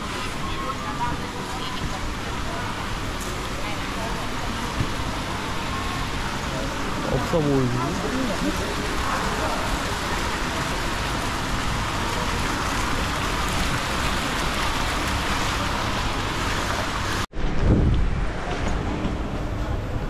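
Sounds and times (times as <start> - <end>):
indoor market hall hiss: 0.0 - 20.0.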